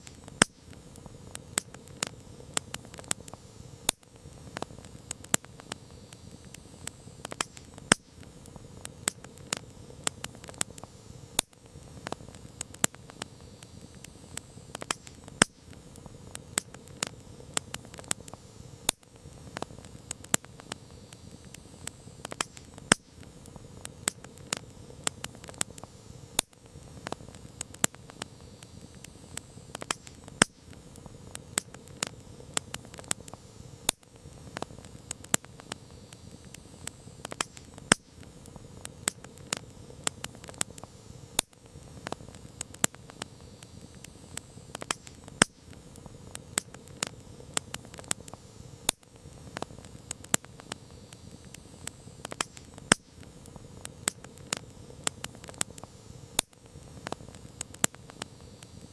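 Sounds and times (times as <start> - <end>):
burning fire hiss: 0.0 - 58.9
campfire crackling: 0.0 - 58.9
fire popping and snapping: 0.0 - 58.9.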